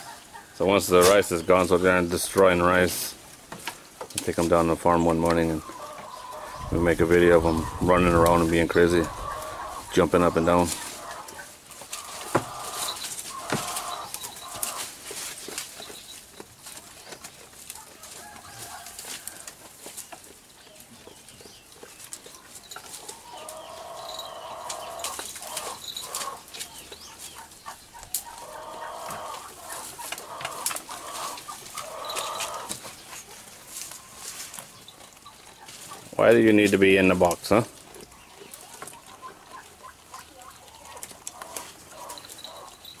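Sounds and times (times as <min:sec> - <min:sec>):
chickens clucking: 0:00.0 - 0:43.0
goats chewing dry fronds: 0:00.0 - 0:43.0.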